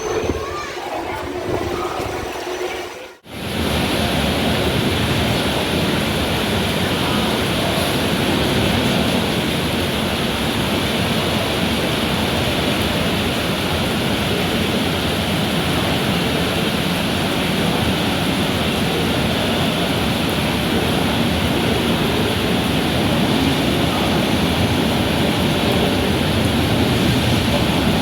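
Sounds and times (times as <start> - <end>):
rain: 3.2 - 28.0.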